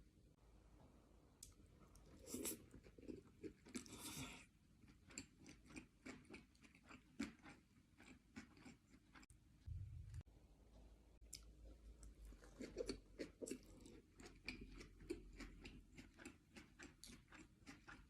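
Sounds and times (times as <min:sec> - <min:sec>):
person chewing: 0:01.4 - 0:10.2, 0:11.3 - 0:18.0.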